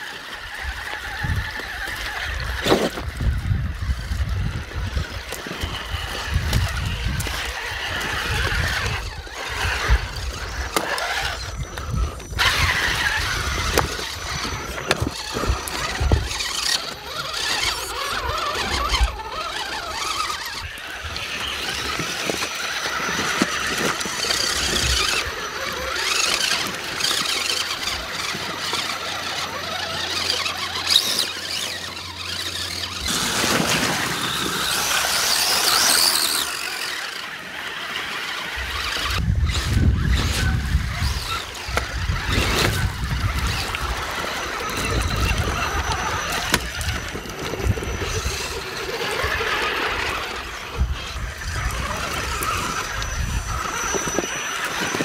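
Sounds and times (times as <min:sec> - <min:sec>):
rc truck motors whining: 0:00.0 - 0:55.0.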